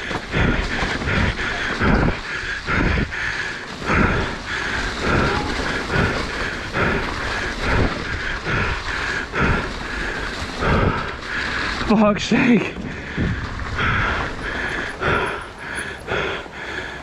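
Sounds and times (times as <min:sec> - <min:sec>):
bike tyres thudding over bumps: 0:00.0 - 0:17.0
steady rushing noise: 0:00.0 - 0:17.0.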